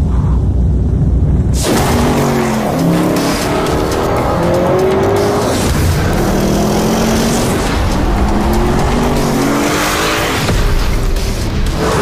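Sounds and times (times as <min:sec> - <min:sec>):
car engine revving hard: 0:01.6 - 0:12.0.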